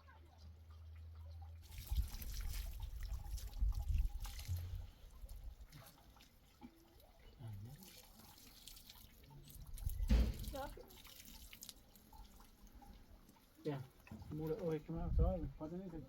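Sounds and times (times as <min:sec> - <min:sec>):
faint drips: 0:00.0 - 0:16.0
liquid splashing and trickling: 0:00.0 - 0:16.0.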